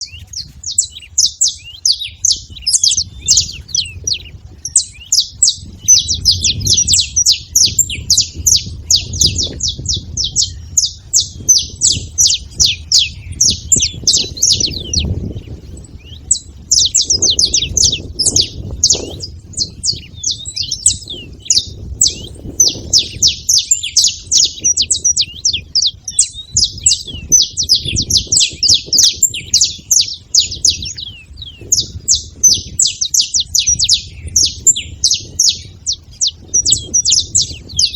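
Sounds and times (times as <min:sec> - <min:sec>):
finches chirping: 0:00.0 - 0:37.9.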